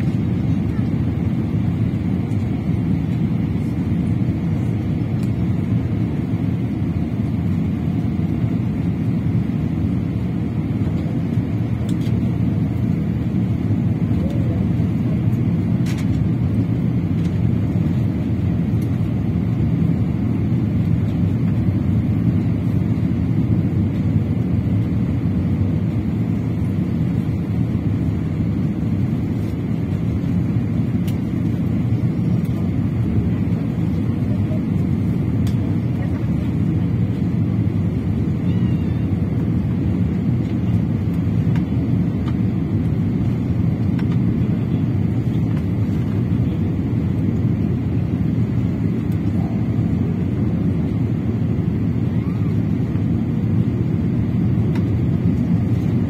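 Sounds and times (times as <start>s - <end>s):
airflow over fuselage: 0.0s - 56.0s
airplane cabin engine rumble: 0.0s - 56.0s.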